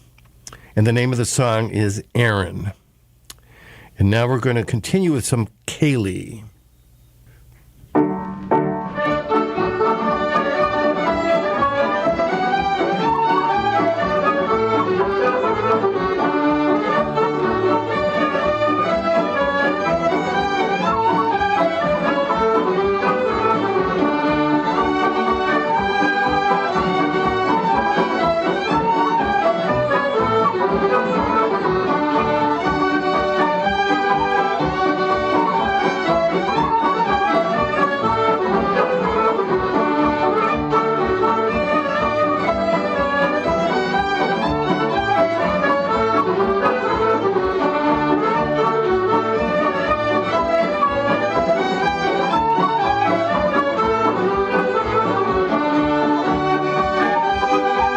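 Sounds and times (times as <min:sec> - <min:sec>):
accordion and fiddle dance tune: 0:08.0 - 0:57.9.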